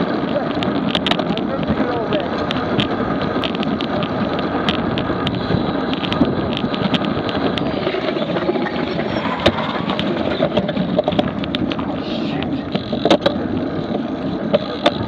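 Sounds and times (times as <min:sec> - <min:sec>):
bicycles rolling: 0:00.0 - 0:15.0
wind buffeting microphone: 0:00.0 - 0:15.0.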